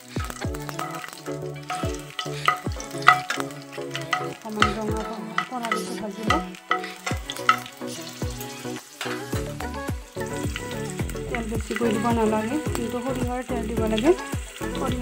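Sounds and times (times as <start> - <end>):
spatula scraping pan: 0.0 - 12.9
background music with bass beat: 0.0 - 15.0
garlic sizzling in hot oil: 0.0 - 15.0.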